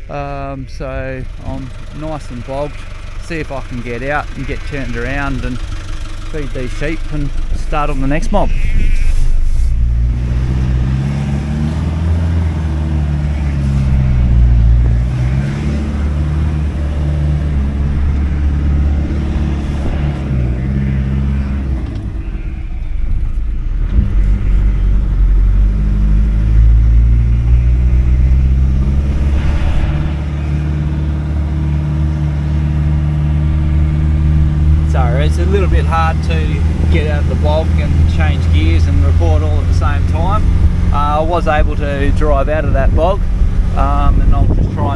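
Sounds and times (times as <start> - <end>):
farm vehicle engine revving: 0.0 - 44.9.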